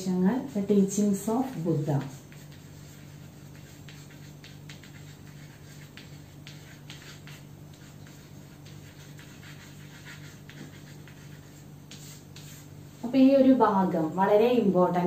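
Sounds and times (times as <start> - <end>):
steady low hum: 0.0 - 15.0
chalk scratching on blackboard: 0.4 - 13.2.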